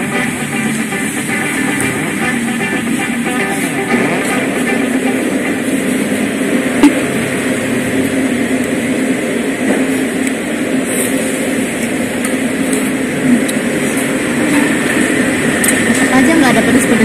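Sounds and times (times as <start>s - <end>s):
mechanical rumble with low hum: 0.0s - 17.0s.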